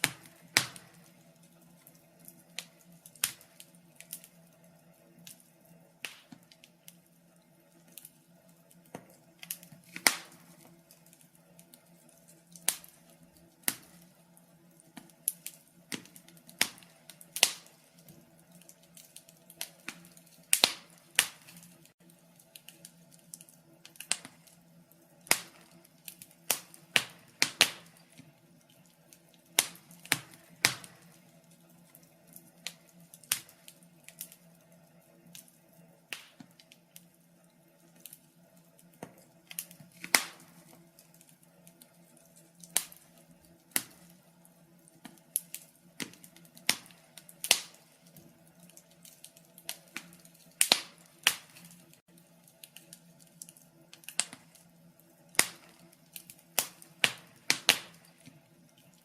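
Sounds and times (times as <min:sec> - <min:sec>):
wood fire popping and snapping: 0:00.0 - 0:59.0.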